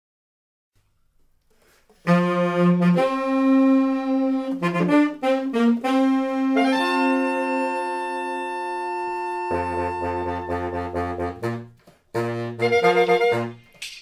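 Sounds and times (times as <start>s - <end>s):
saxophone ensemble in harmony: 2.0s - 13.7s.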